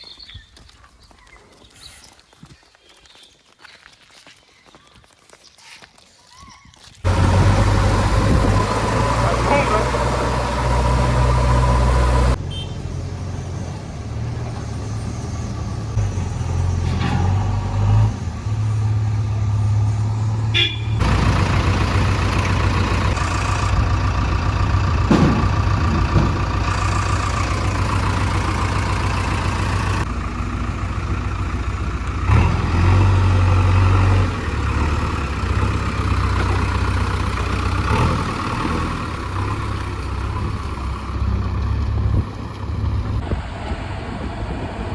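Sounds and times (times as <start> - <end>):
heavy diesel engines rumbling: 7.1 - 44.9.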